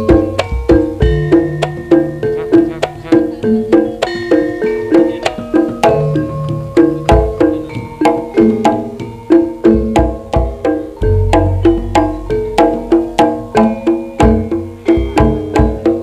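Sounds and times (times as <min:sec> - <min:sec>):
tuned metal percussion: 0:00.0 - 0:16.0.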